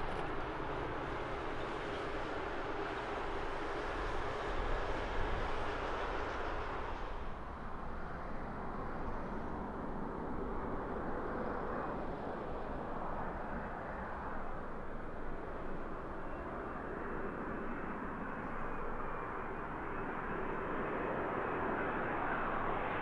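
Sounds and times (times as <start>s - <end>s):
jet engines droning: 0.0s - 23.0s.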